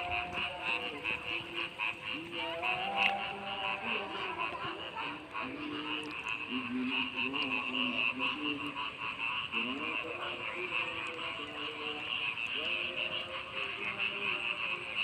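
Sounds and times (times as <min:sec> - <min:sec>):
frog chorus: 0:00.0 - 0:15.0.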